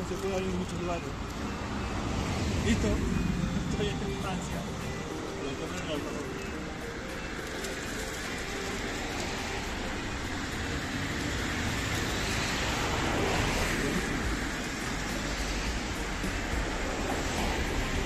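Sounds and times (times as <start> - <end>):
car passing: 0.0 - 18.0.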